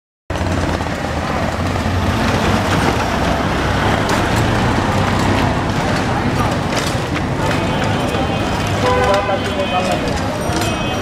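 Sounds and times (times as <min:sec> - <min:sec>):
vehicles passing: 0:00.3 - 0:11.0.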